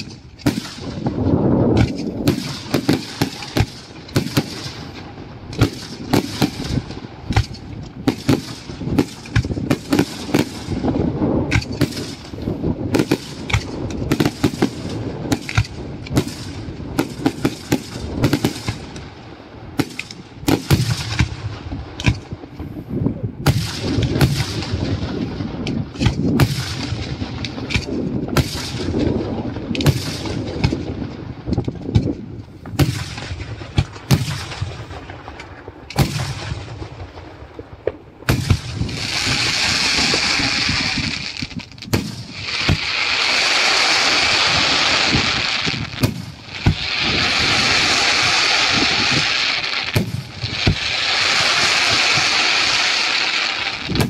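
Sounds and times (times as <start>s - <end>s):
fireworks bursting with bangs: 0.0s - 54.0s.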